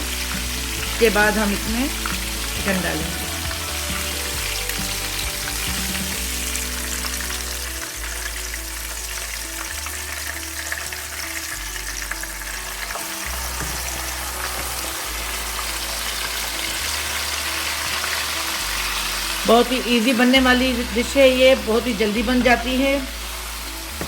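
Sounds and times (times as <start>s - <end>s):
background music: 0.0s - 24.0s
seeds sizzling in hot oil: 0.0s - 24.0s.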